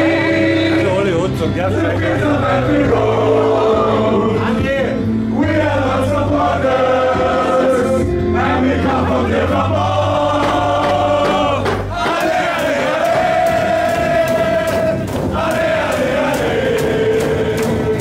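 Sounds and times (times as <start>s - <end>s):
group singing together: 0.0s - 18.0s.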